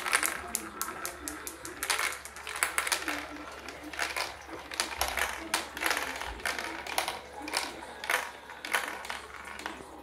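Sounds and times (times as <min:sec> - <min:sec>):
marbles rattling down plastic track: 0:00.0 - 0:10.0.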